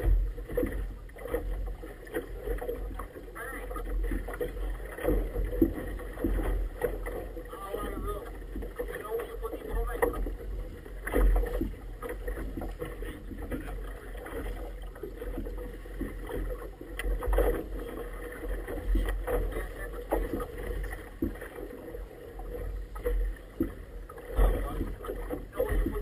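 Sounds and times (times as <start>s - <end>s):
water slapping rubber boat: 0.0s - 26.0s.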